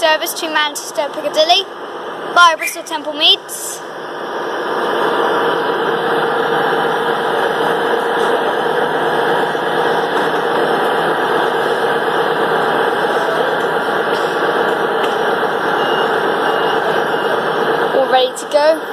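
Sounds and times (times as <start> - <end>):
train diesel engines droning: 0.0 - 18.9.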